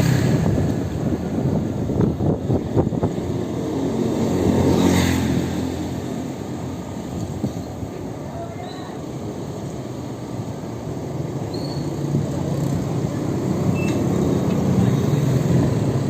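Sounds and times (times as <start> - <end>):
road vehicle passing by: 0.0 - 8.2, 9.0 - 16.0.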